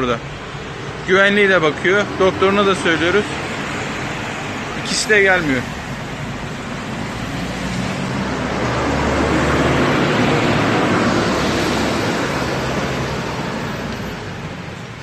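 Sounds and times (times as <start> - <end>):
vehicle passing with engine hum: 0.0 - 15.0.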